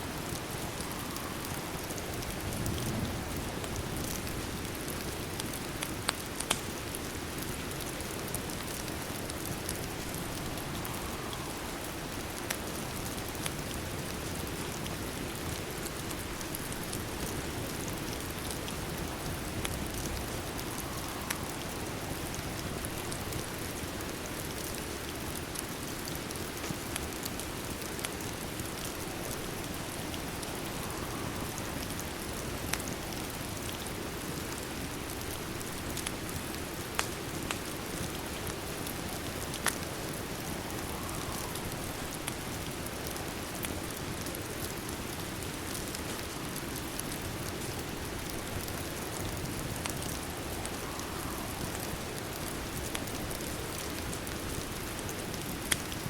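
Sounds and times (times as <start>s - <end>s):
steady rain falling: 0.0s - 56.0s
wood fire crackling: 0.0s - 56.0s.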